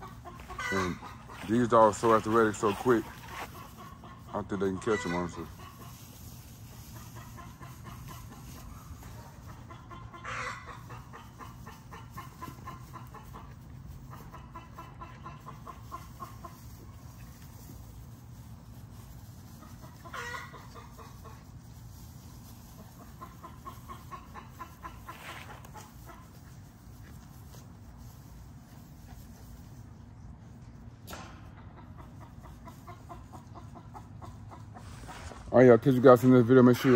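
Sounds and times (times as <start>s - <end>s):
chicken squawk: 0.0s - 21.7s, 22.6s - 27.6s, 31.6s - 35.5s
chickens clucking: 0.0s - 36.9s.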